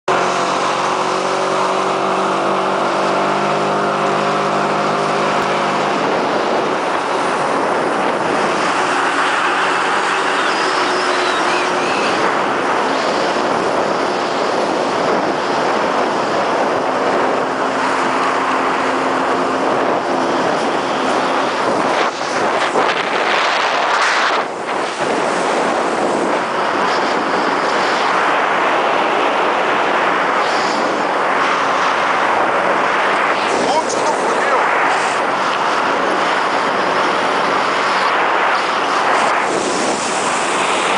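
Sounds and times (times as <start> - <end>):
jet ski engine running: 0.1 - 40.9
rushing water: 0.1 - 40.9
wind buffeting microphone: 0.1 - 40.9.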